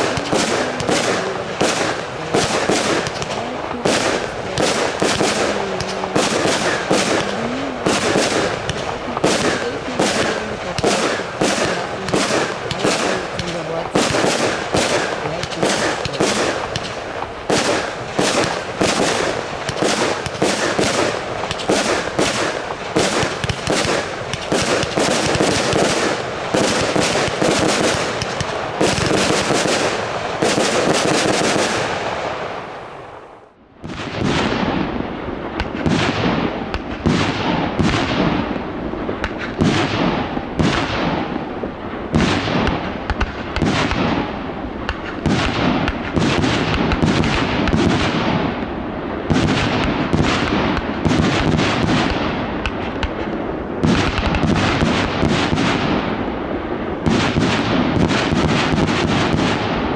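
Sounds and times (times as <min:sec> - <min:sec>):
fireworks crackling bursts: 0:00.0 - 0:59.9
fireworks launch shots: 0:00.0 - 0:59.9.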